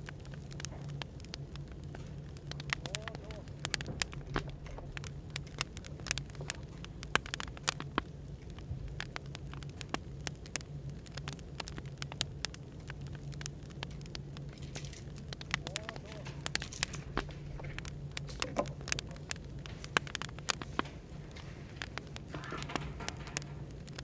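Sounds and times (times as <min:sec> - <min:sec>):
firewood crackling: 0:00.0 - 0:24.0
low background hum: 0:00.0 - 0:24.0.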